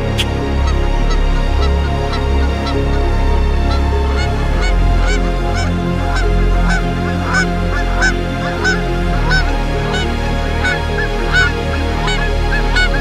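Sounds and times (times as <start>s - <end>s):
low drone background music: 0.0s - 13.0s
flock of birds calling: 0.1s - 13.0s.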